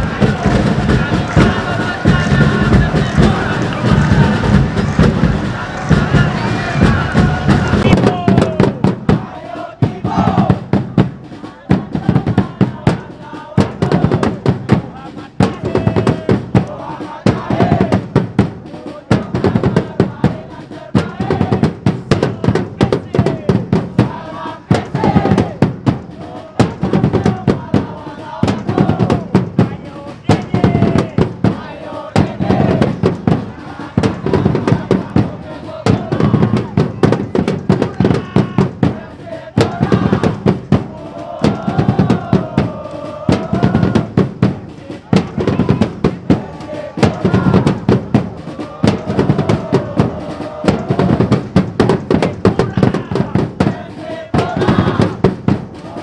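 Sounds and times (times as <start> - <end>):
crowd chanting: 0.0 - 56.0
drums beaten fast: 0.0 - 56.0.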